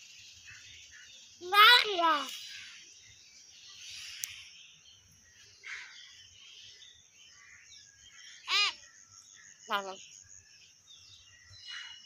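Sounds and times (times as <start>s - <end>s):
myna bird call: 0.0s - 12.0s.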